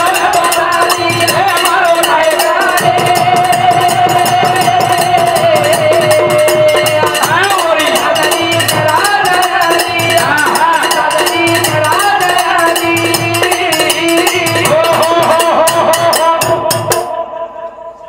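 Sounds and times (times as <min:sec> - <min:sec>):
metallic jingling percussion: 0:00.0 - 0:17.1
steady drum beat: 0:00.0 - 0:17.2
man singing: 0:00.0 - 0:18.0.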